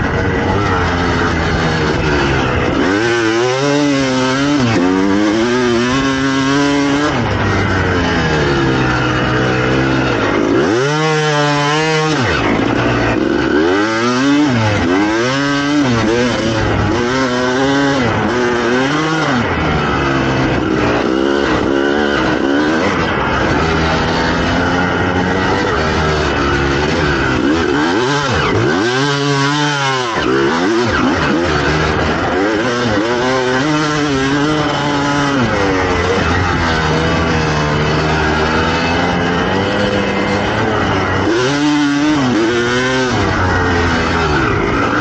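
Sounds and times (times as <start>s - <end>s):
two-stroke motorcycle engine revving: 0.0s - 45.0s.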